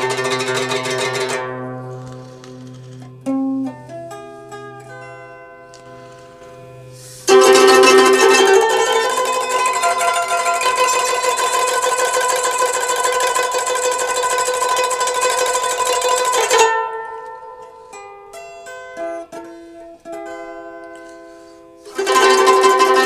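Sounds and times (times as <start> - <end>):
plucked string instrument music: 0.0 - 23.0.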